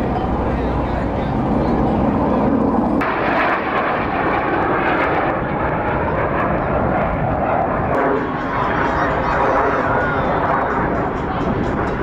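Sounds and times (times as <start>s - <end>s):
airplane engine rushing: 0.0s - 12.0s.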